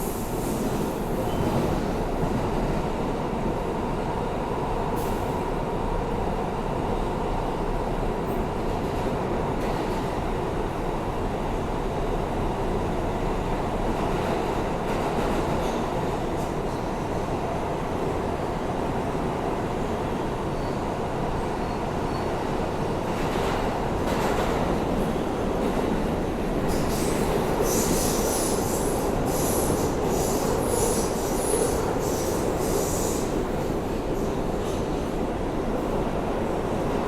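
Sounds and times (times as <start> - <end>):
subway car rumble: 0.0 - 37.0.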